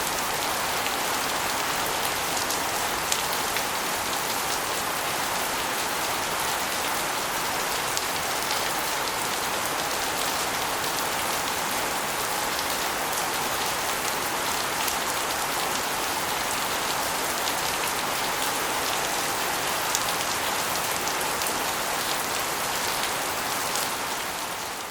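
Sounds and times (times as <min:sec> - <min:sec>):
steady rain: 0:00.0 - 0:24.9.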